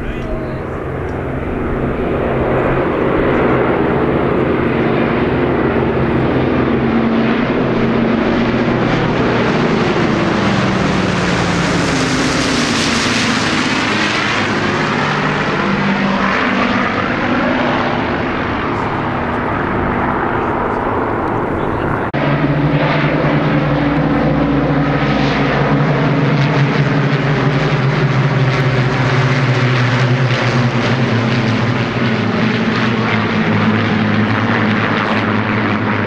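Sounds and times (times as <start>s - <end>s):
propeller aircraft drone overhead: 0.0s - 36.0s.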